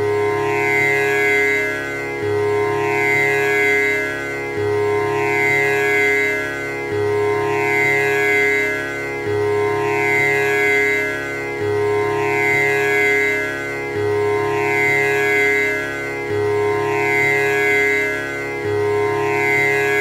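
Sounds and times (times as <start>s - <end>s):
tanpura drone: 0.0s - 20.0s.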